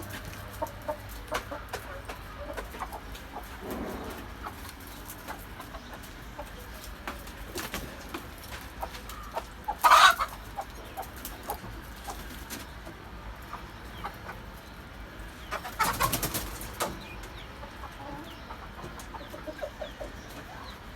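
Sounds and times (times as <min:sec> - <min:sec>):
chickens clucking: 0:00.0 - 0:20.9.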